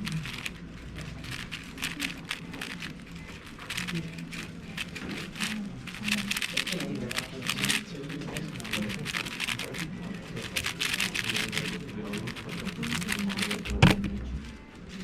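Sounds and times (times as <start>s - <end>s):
speedcube clicking and clattering: 0.0s - 14.2s.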